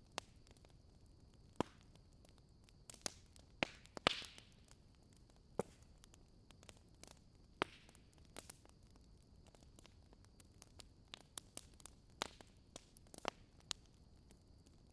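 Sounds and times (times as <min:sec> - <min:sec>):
campfire crackling: 0:00.0 - 0:14.9
fire pops: 0:01.5 - 0:13.9.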